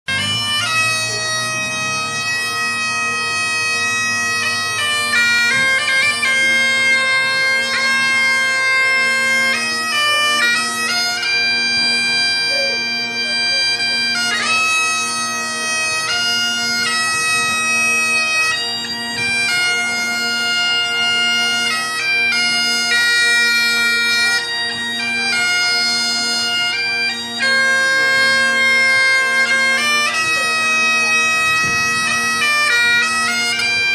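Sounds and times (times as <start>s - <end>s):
bagpipes playing slow tune: 0.1s - 33.9s.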